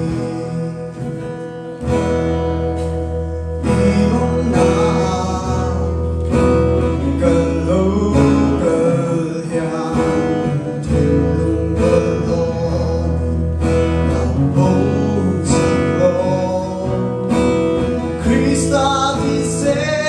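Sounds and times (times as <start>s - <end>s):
man singing: 0.0s - 1.8s, 3.2s - 20.0s
strummed acoustic guitar: 0.0s - 20.0s.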